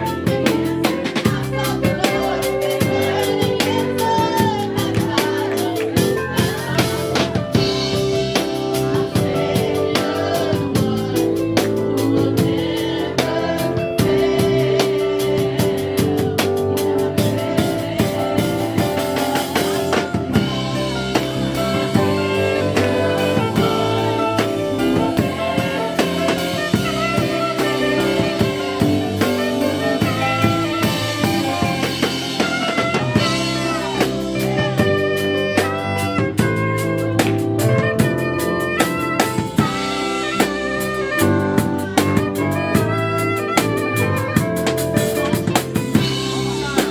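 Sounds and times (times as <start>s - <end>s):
drum kit beat: 0.0s - 46.9s
instrumental band music: 0.0s - 46.9s.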